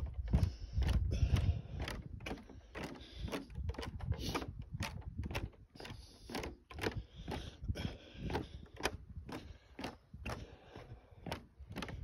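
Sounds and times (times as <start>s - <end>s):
footsteps on wooden boardwalk: 0.0s - 12.0s.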